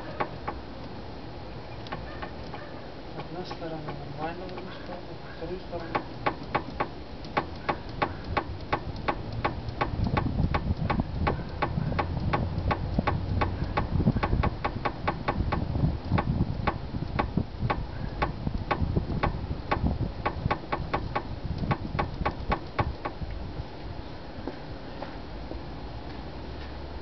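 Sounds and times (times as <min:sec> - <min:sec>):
sharp clicks in steering: 0:00.1 - 0:01.0, 0:01.8 - 0:05.0, 0:05.7 - 0:23.3.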